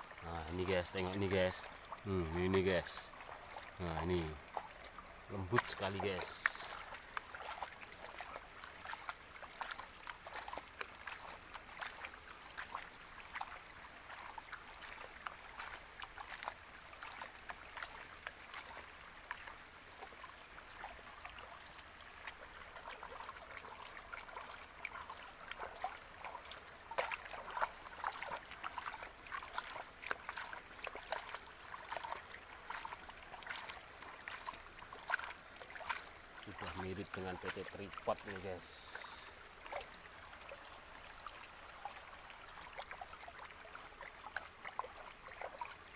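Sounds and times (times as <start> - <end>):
small clicks and splashes: 0.0 - 45.9
water sloshing in a pan: 0.0 - 45.9.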